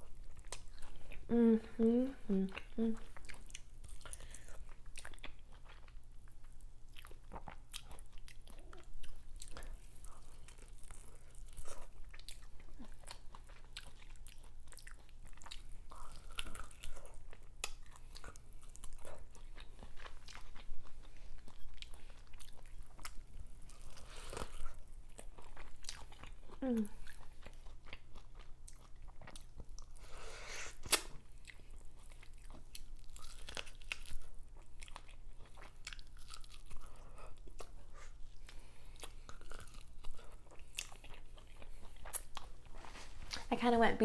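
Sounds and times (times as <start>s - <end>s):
chewing corn on the cob: 0.0s - 1.3s, 2.4s - 30.2s, 30.9s - 43.4s.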